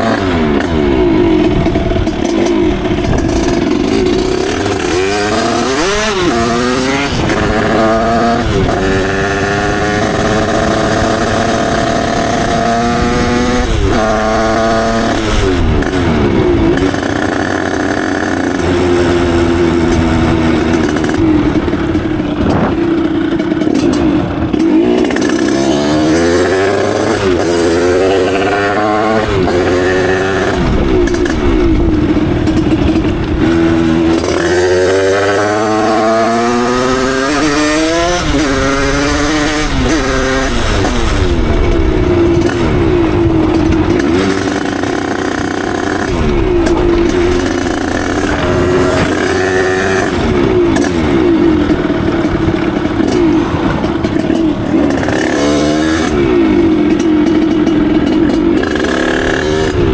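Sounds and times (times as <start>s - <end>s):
two-stroke moped engine revving: 0.0s - 59.9s.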